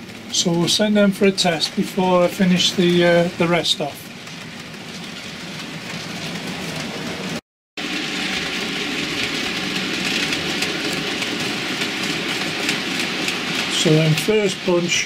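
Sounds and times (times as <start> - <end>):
model train rolling rumble: 0.0 - 15.0
wheels ticking over rail joints: 0.0 - 15.0.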